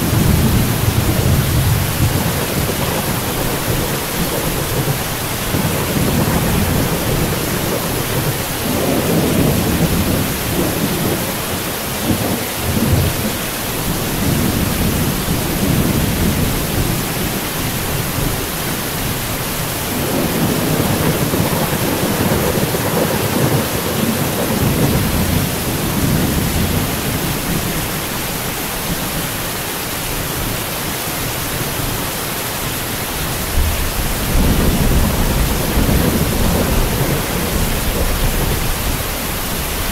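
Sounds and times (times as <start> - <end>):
rolling thunder: 0.0 - 18.4, 19.8 - 28.0, 33.5 - 39.9
heavy rain: 0.0 - 39.9.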